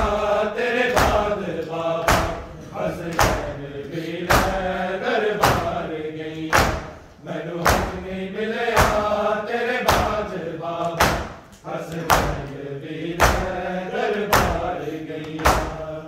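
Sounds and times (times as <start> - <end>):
men slapping chests: 0.0 - 8.1, 8.7 - 16.0
men chanting: 0.0 - 16.0.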